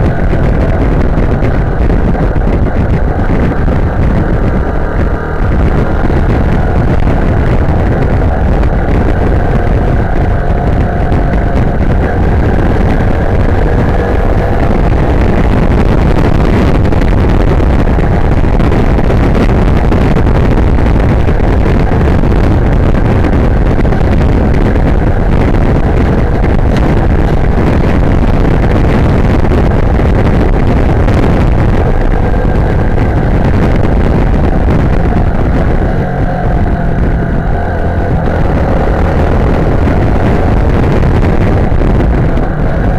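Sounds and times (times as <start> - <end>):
motorcycle engine running: 0.0 - 42.9
wind rush on microphone: 0.0 - 42.9.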